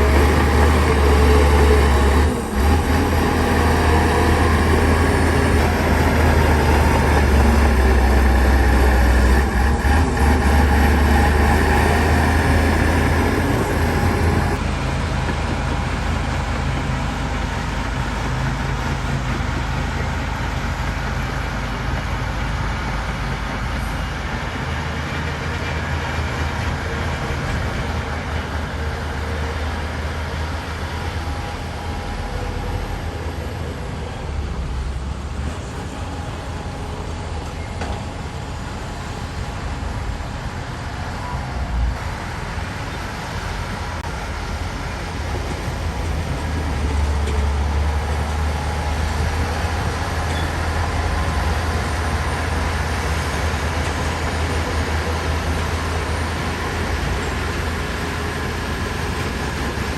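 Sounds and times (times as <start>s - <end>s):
heavy earthmoving diesel engines: 0.0s - 59.9s.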